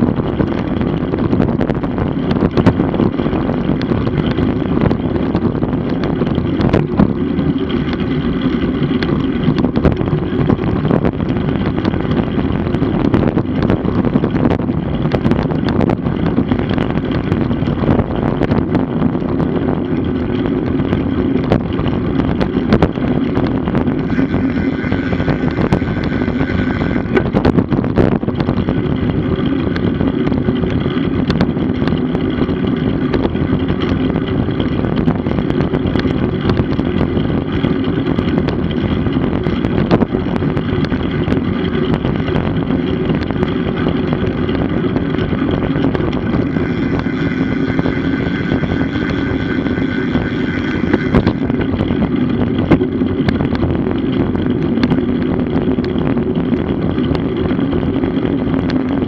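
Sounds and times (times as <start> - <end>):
bike tyre and wind noise: 0.0 - 59.0.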